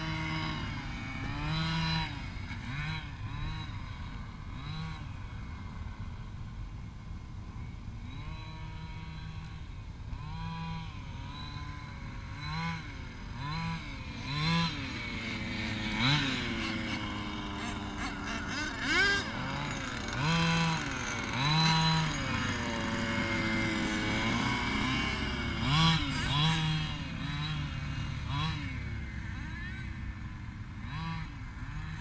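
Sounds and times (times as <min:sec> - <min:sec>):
two-stroke engine revving: 0:00.0 - 0:06.6, 0:07.5 - 0:32.0.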